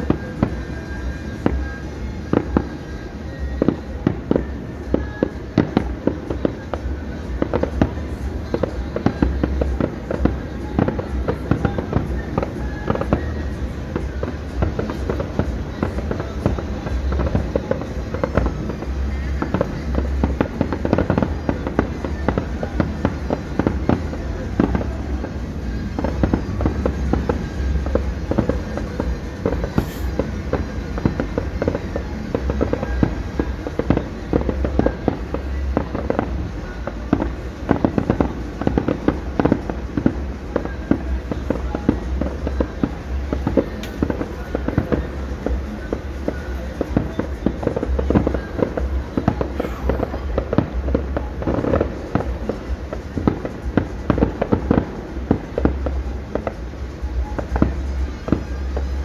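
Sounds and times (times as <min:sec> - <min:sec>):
fireworks pops and crackles: 0:00.0 - 0:59.0.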